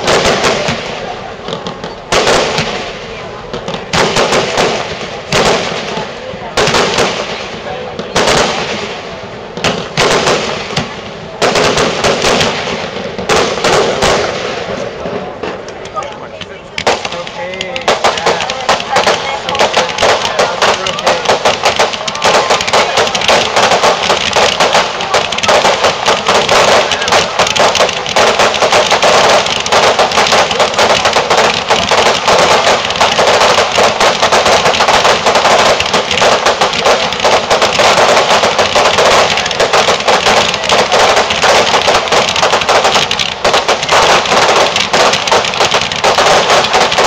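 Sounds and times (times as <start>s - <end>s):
fireworks crackling: 0.0s - 47.0s.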